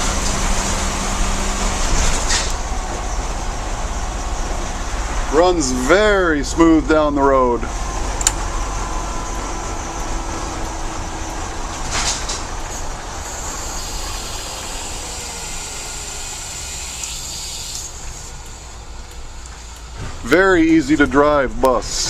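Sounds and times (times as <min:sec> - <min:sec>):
bus engine rumbling: 0:00.0 - 0:22.0
road noise: 0:00.0 - 0:22.0.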